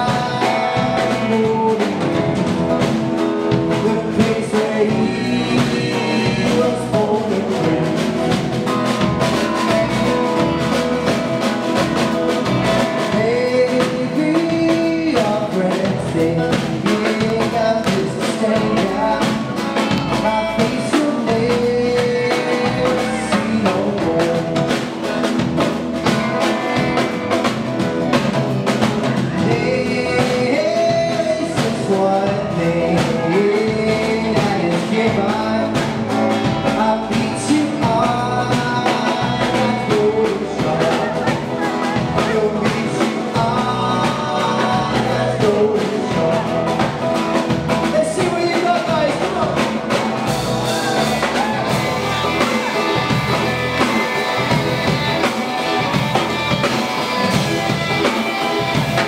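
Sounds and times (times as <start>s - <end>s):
male lead vocal singing: 0.0s - 25.3s, 28.8s - 59.0s
bass guitar: 0.0s - 59.0s
drum kit: 0.0s - 59.0s
electric and acoustic guitars: 0.0s - 59.0s.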